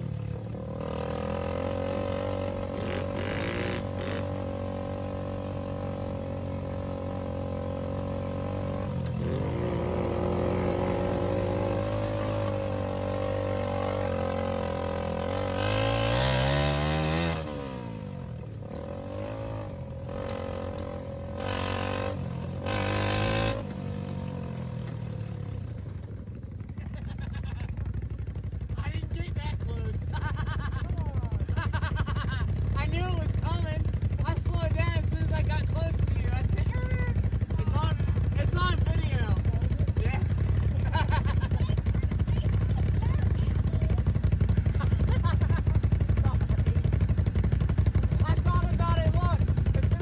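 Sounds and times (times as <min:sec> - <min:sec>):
go-kart engine revving: 0:00.0 - 0:28.6, 0:30.0 - 0:50.0.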